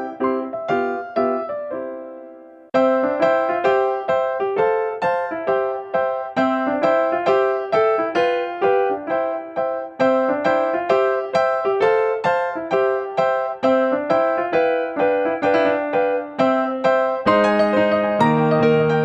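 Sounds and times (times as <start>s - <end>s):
keyboard playing simple melody: 0.0s - 19.0s.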